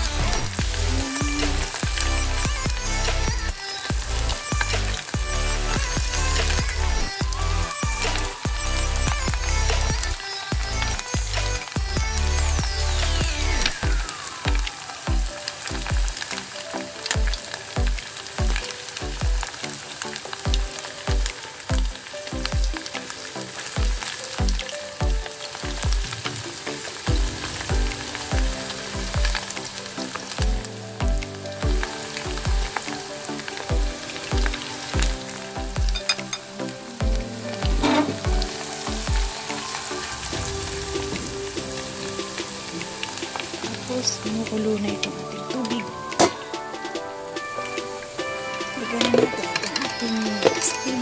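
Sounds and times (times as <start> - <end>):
background music with bass beat: 0.0 - 43.9
ribs deep-frying in oil: 0.0 - 51.0.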